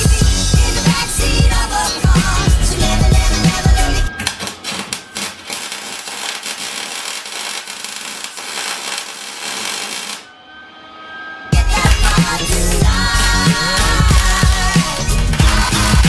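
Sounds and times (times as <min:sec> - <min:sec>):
welding arc crackling: 0:00.0 - 0:10.3, 0:11.6 - 0:16.0.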